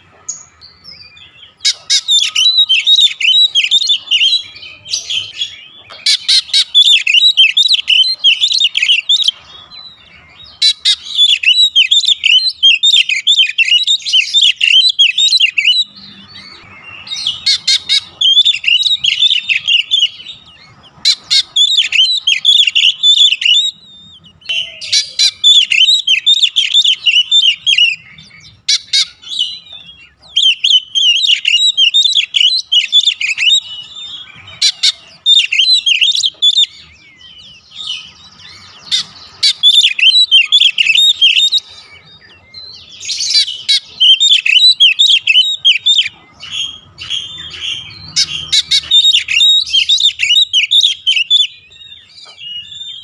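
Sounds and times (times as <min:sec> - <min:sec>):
bird singing warbling song: 0:00.0 - 0:53.0.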